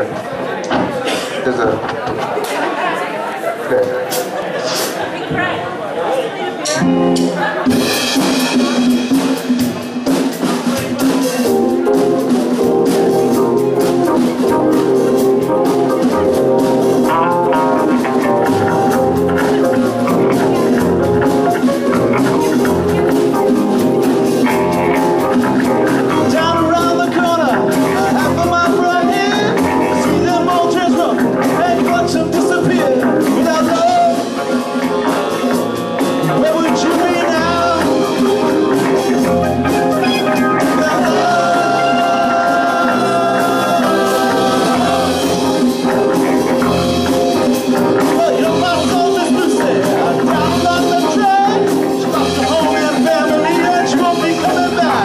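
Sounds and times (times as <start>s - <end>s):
band playing rock song: 6.6s - 55.0s.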